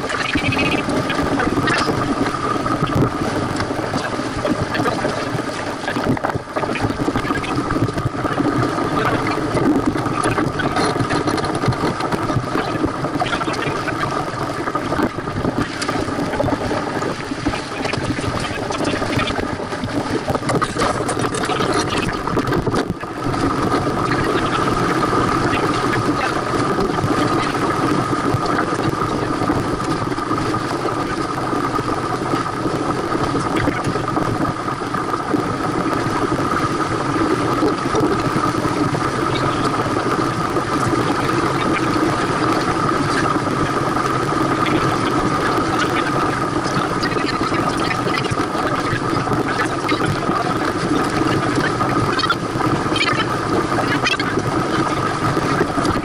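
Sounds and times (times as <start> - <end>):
constant hum: 0.0 - 56.0
water rushing past boat: 0.0 - 56.0.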